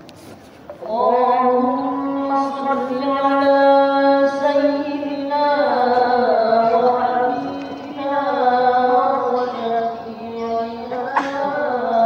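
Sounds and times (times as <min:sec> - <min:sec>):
person chanting: 0:00.8 - 0:12.0.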